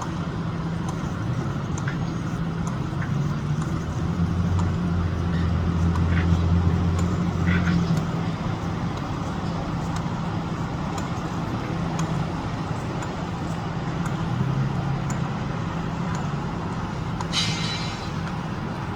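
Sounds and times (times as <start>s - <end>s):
construction machinery engine humming: 0.0s - 18.9s.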